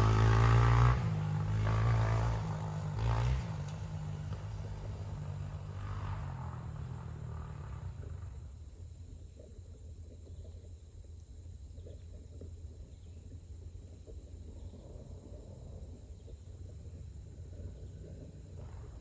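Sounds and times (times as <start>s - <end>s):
dirt bike engine low rumble: 0.0s - 19.0s.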